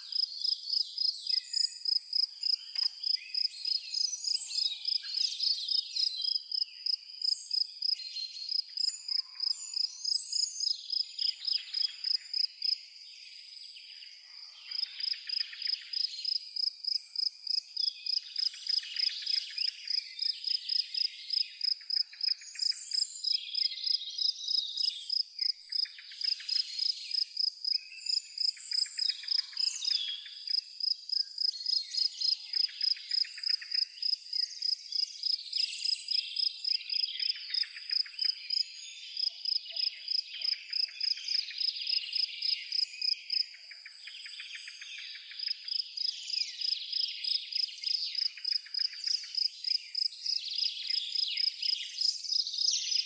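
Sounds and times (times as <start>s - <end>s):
birds singing: 0.0s - 53.0s
cricket chirping: 0.1s - 13.8s, 14.7s - 53.0s.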